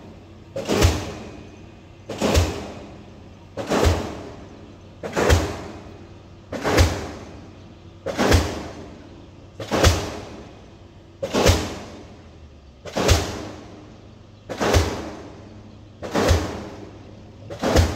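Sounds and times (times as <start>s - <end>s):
pile-driving hammer blows: 0.0s - 10.6s, 11.2s - 12.2s, 12.8s - 17.9s.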